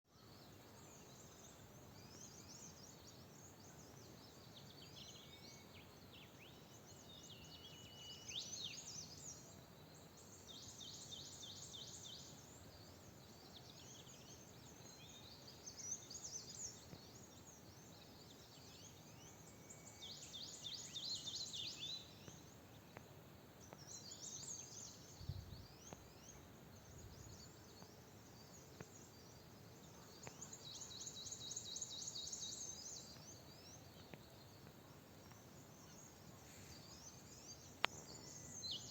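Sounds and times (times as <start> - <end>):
faint forest background: 0.0 - 38.9
songbirds singing: 0.1 - 38.9.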